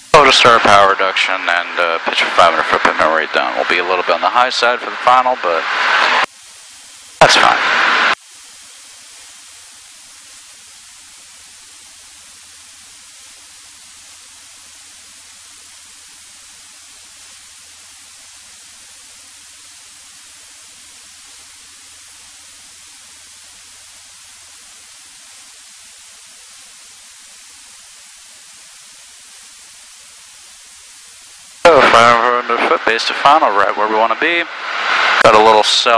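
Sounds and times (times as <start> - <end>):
intercom hiss: 0.0 - 35.9.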